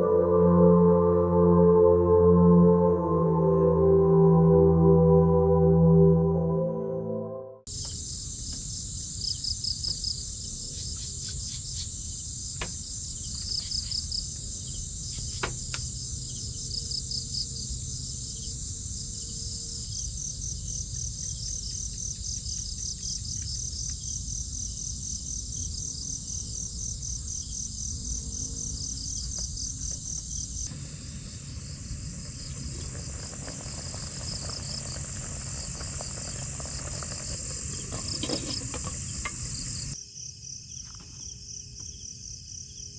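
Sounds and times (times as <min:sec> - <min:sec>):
insects chirping: 0:07.7 - 0:42.9
rhythmic pulsed insect trills: 0:07.7 - 0:42.9.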